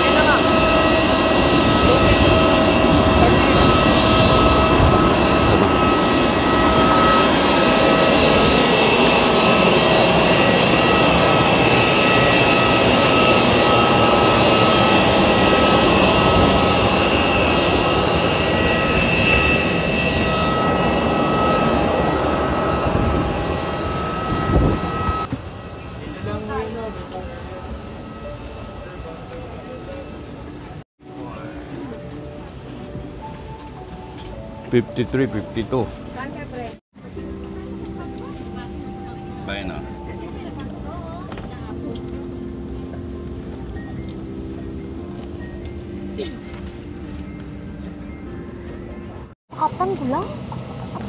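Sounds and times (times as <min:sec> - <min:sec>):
high held tones: 0:00.0 - 0:50.4
jet engine whine and rush: 0:00.0 - 0:51.0.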